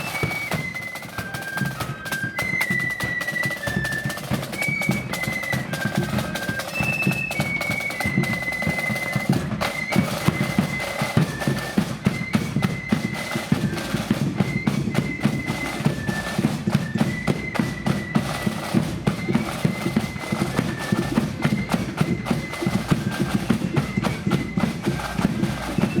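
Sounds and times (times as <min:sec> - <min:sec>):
flutes playing melody: 0:00.0 - 0:26.0
snare and bass drums beating: 0:00.0 - 0:26.0.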